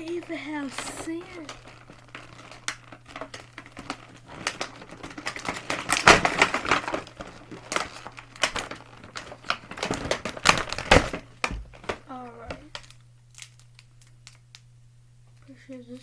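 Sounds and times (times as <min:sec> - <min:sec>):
plastic items clicking together: 0:00.0 - 0:14.7
plastic packaging crinkling: 0:00.0 - 0:14.8.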